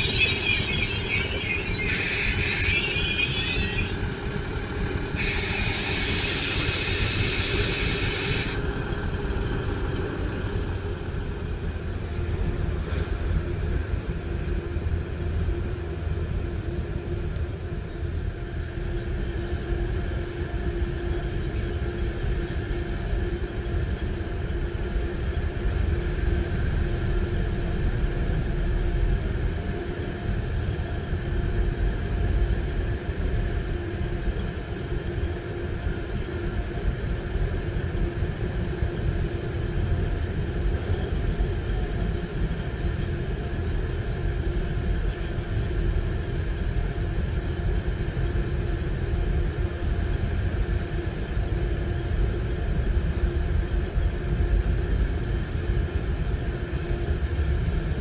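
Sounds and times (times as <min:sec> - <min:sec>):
diesel train engine rumble: 0:00.0 - 0:58.0.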